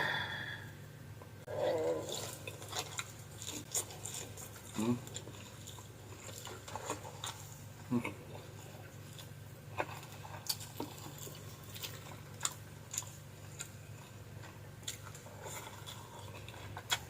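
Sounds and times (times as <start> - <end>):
steady low hum: 0.0 - 17.0
person chewing food: 1.5 - 17.0.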